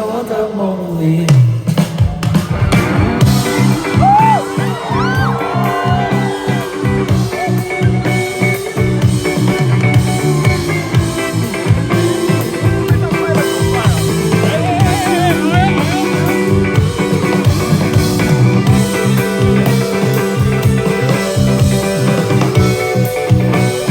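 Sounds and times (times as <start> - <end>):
drum kit: 0.0 - 23.9
bass guitar: 1.7 - 23.9
rhythm guitar chords: 2.0 - 23.9
guitar lead: 2.2 - 23.9.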